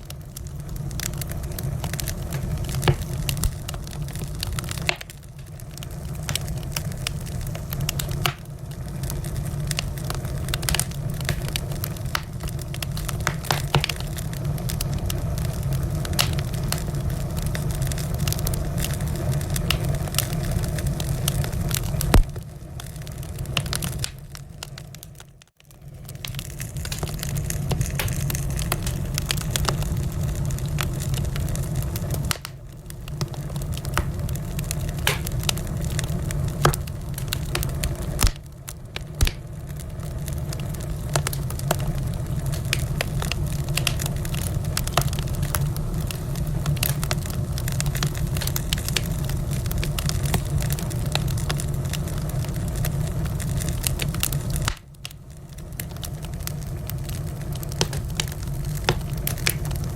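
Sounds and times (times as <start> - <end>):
fire crackling and popping: 0.0 - 59.9
wood fire roaring: 0.0 - 59.9.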